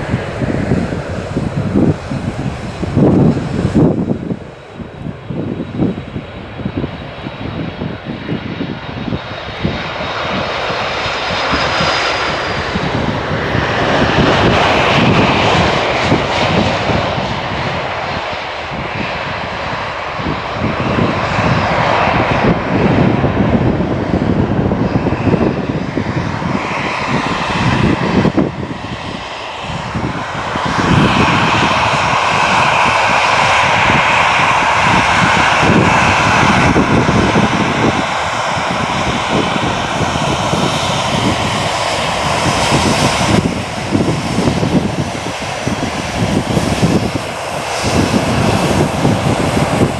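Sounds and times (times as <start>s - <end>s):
jet engines roaring: 0.0s - 49.9s.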